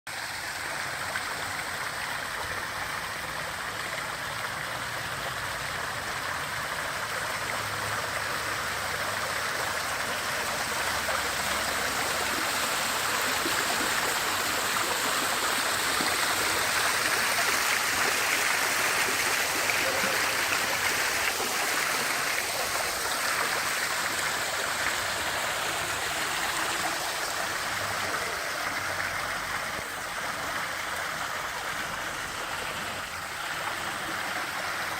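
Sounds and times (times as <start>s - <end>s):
waterfall rushing: 5.8s - 34.9s.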